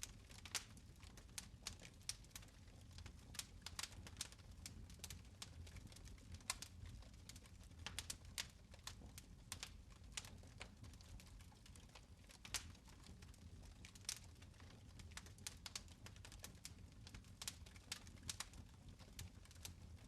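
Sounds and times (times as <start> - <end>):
fire snapping and popping: 0.0 - 20.0
low rumble of flames: 0.0 - 20.0.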